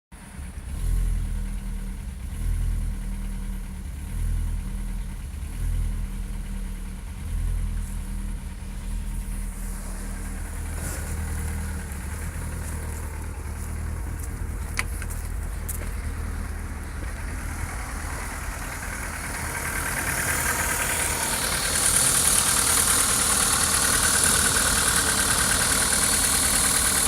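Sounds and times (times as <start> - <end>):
car engine idling with misfire: 0.2 - 27.0.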